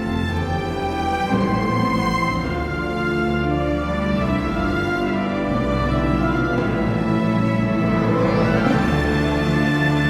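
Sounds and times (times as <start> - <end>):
instrumental soundtrack music: 0.0 - 10.0.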